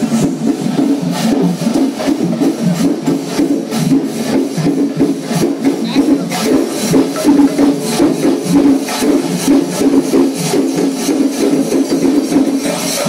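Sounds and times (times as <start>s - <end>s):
dense pitched drone: 0.0s - 12.2s
metallic percussion strikes: 0.0s - 13.0s.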